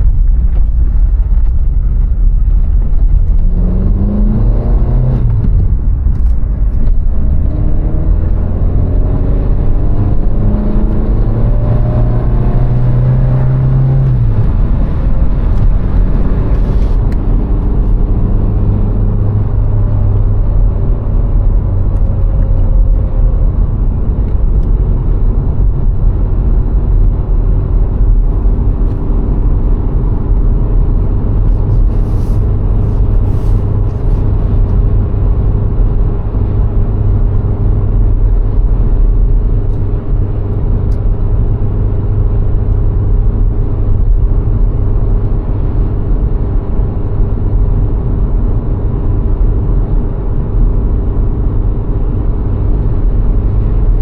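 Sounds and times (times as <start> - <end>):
car engine revving: 0.0 - 50.0
tyre and wind rumble: 0.0 - 54.0.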